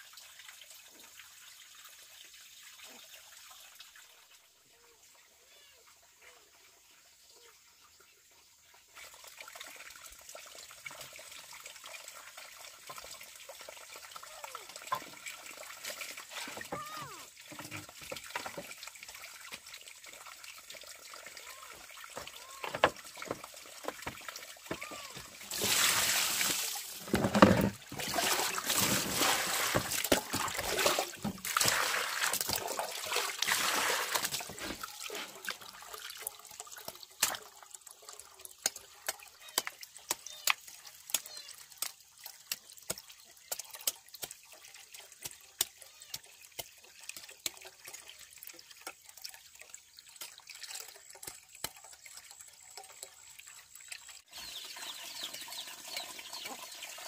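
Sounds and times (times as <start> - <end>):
water pouring: 0.0 - 57.0.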